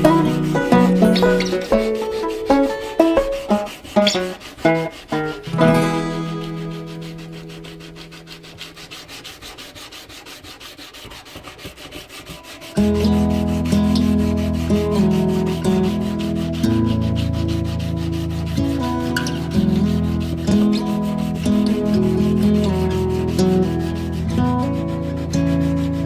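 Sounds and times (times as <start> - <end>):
instrumental background music: 0.0 - 9.6, 12.0 - 26.0
sandpaper sanding steel blade: 0.0 - 26.0.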